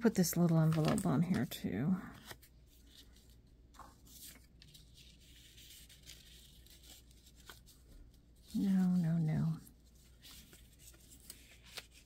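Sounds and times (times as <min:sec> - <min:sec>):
paper and envelope rustling: 0:00.0 - 0:12.0.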